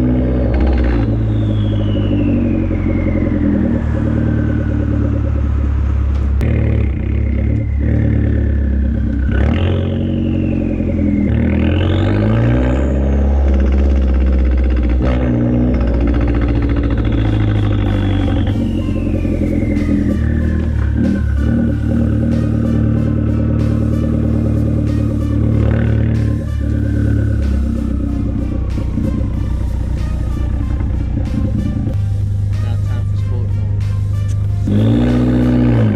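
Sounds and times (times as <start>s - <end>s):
car engine revving loud: 0.0s - 35.9s
turbo whine: 0.0s - 35.9s.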